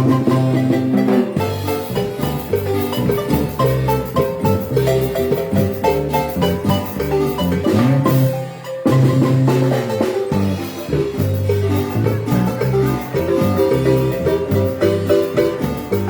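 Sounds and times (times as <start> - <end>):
marimba band dance tune: 0.0 - 16.0.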